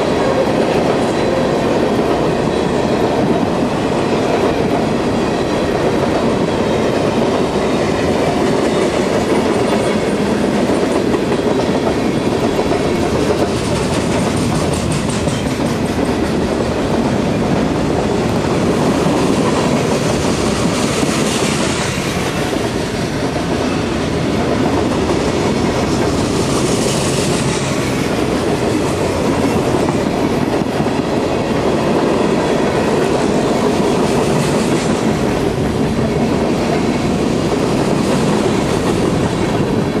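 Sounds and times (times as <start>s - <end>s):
steel train wheels on rails: 0.0s - 40.0s.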